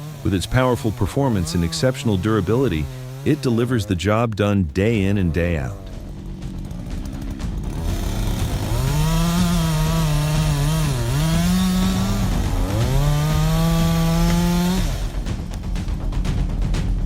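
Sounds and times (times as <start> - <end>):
chainsaw engine revving: 0.0 - 4.0, 4.9 - 15.9.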